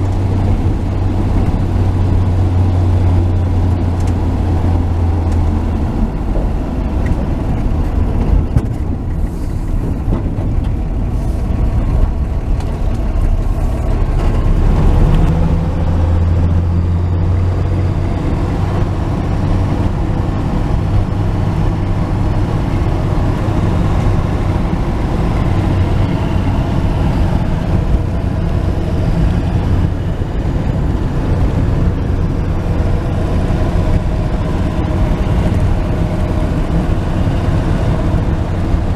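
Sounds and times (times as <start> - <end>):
road noise: 0.0 - 38.9
truck engine droning: 0.0 - 38.9.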